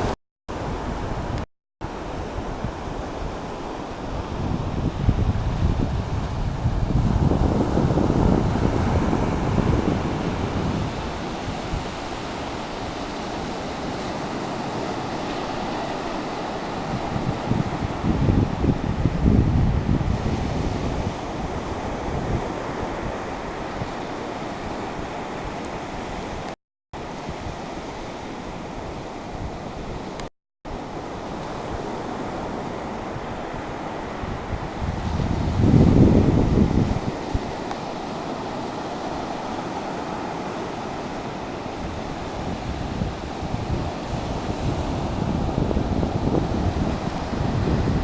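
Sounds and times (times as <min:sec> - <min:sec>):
ocean surf washing ashore: 0:00.0 - 0:48.0
waves breaking on shore: 0:00.0 - 0:48.0
wind buffeting microphone: 0:00.0 - 0:48.0.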